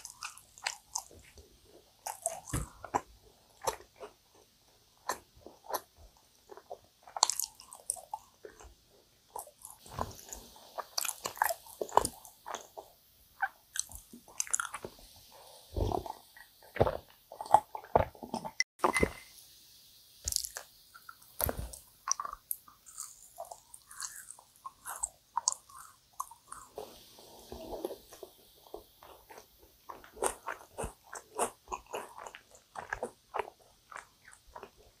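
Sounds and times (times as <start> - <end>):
chewing sticky cookie: 0.0 - 15.0, 20.2 - 35.0.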